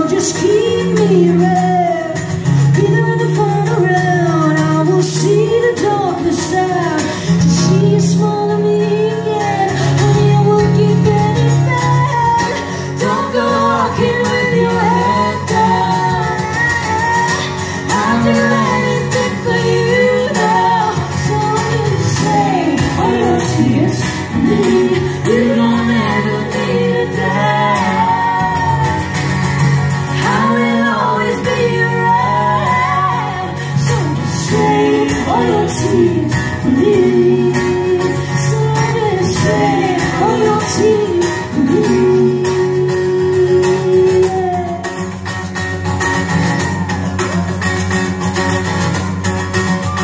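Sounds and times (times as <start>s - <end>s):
women singing: 0.0s - 45.2s
acoustic guitars strummed: 0.0s - 50.0s.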